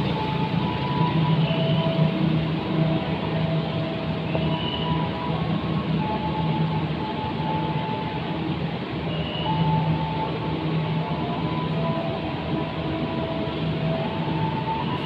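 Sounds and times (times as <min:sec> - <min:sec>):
wheel and brake squeals: 0:00.0 - 0:12.2
train wheels rumbling on rails: 0:00.0 - 0:15.0.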